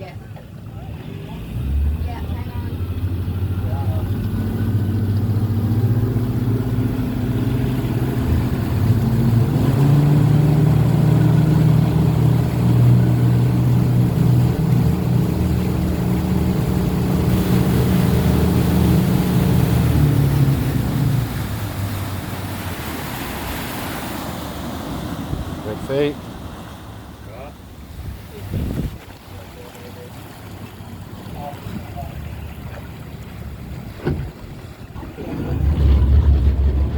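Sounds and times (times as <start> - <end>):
motorboat engine running: 0.0 - 36.9.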